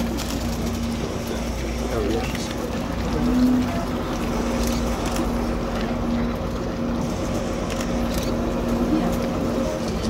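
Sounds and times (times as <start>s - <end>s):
boat diesel engine droning: 0.0s - 10.0s.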